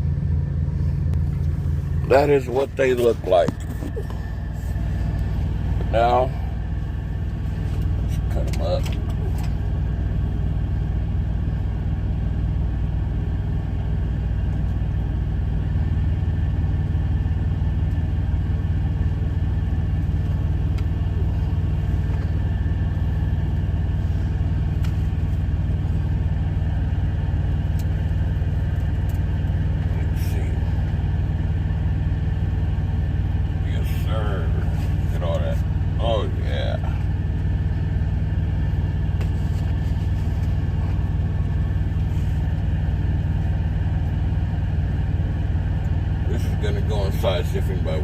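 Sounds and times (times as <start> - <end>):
diesel truck engine idling: 0.0 - 48.0.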